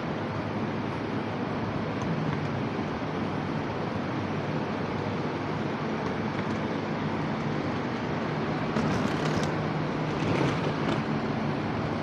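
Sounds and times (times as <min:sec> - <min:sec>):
railway platform background noise: 0:00.0 - 0:12.0.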